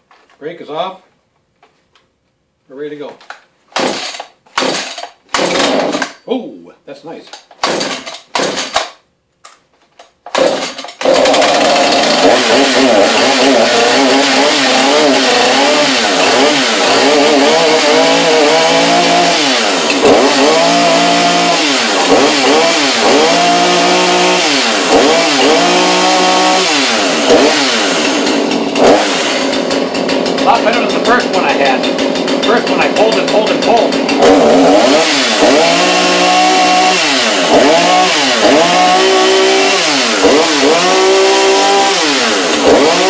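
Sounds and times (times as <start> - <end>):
chainsaw pull-start: 3.7 - 6.2, 7.4 - 43.0
chainsaw engine revving: 3.8 - 6.2, 7.6 - 9.0, 10.3 - 43.0.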